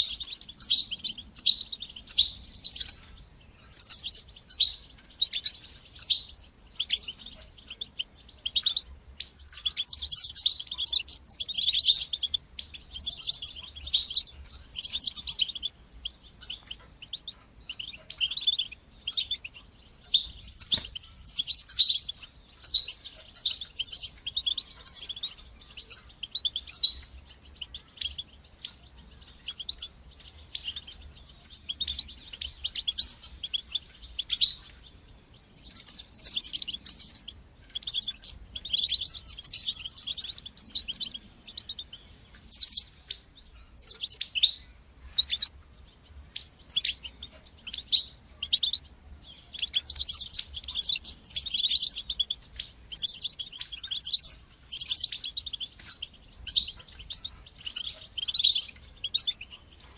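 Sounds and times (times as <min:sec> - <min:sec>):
finch singing fast twittering: 0:00.0 - 0:59.9.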